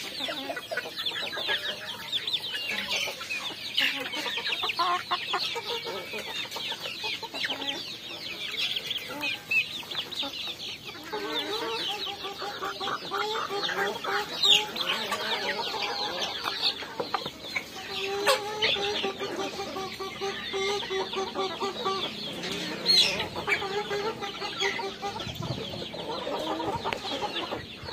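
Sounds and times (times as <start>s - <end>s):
chickens clucking and peeping: 0.0s - 27.9s
drawn-out chicken calls: 0.0s - 27.9s.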